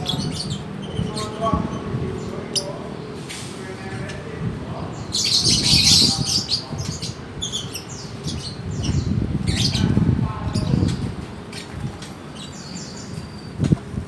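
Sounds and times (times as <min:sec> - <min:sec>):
birds chirping and squawking: 0:00.0 - 0:14.0.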